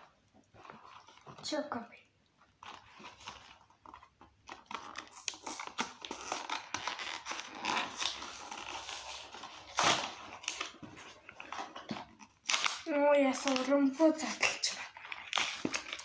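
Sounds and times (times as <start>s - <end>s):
packaging tearing and crinkling: 2.6s - 16.0s.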